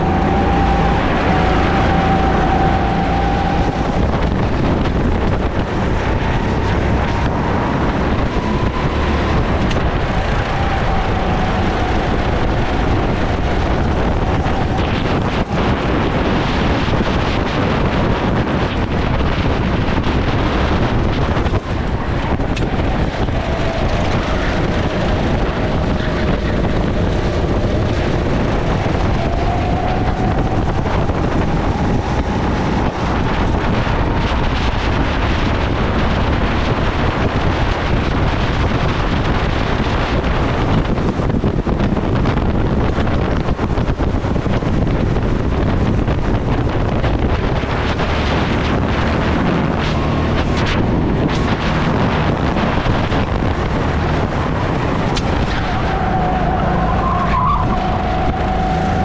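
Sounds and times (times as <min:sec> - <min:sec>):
go-kart engine whine: 0:00.0 - 0:59.0
wind buffeting microphone: 0:00.0 - 0:59.0.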